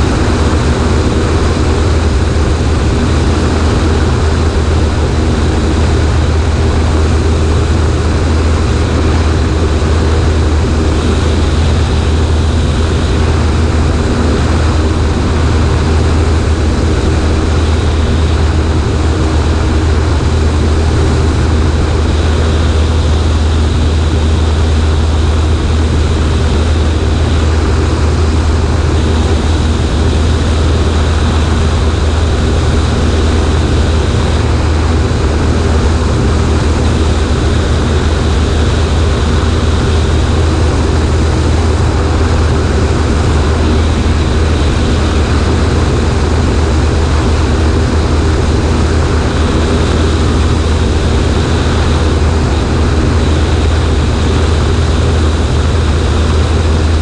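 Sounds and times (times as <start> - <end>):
propeller plane engine droning: 0.0 - 57.0
rushing air noise: 0.0 - 57.0.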